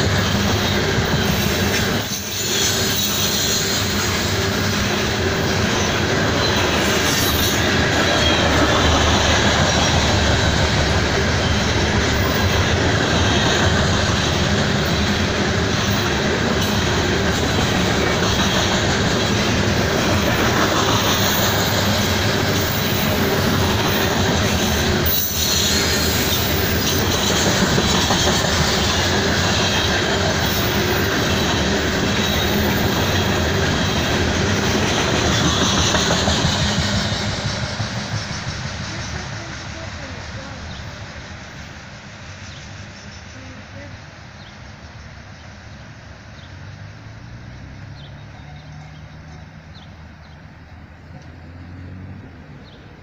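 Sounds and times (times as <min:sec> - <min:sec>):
distant diesel locomotive rumble: 0:00.0 - 0:53.0
freight train rolling past: 0:00.0 - 0:53.0
steel wheels on rails: 0:00.0 - 0:53.0.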